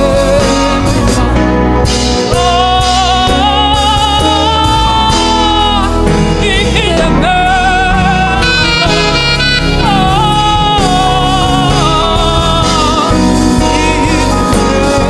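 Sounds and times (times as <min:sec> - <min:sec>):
gospel band playing: 0:00.0 - 0:15.0
held melody with vibrato: 0:00.0 - 0:15.0.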